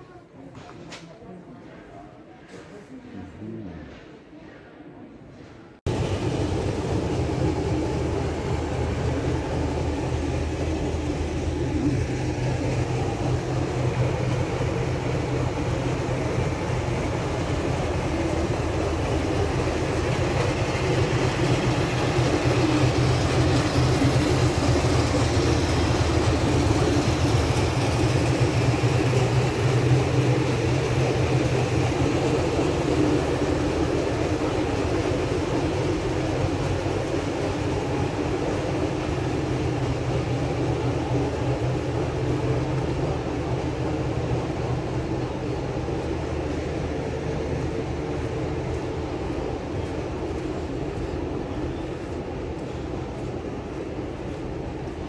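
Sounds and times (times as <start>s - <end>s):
diesel locomotive idling: 5.4s - 55.0s.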